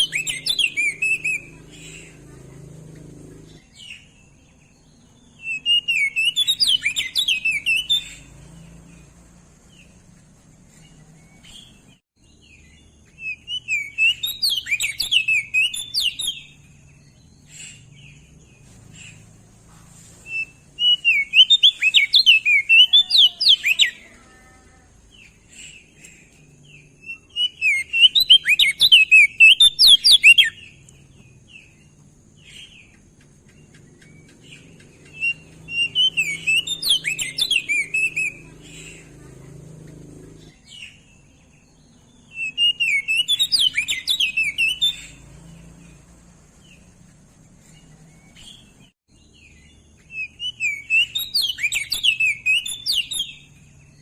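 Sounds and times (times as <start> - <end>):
bird twittering and warbling: 0.0 - 54.0.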